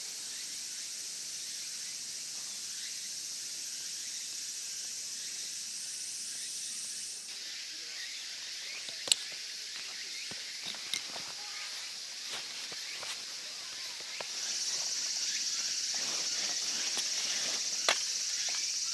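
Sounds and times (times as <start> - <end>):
insects chirping: 0.0 - 18.9.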